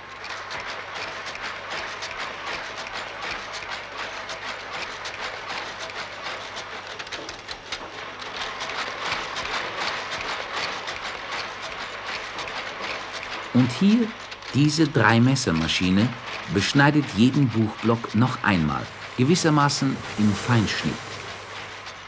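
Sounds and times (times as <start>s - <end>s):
stitching machine clattering: 0.0s - 22.0s.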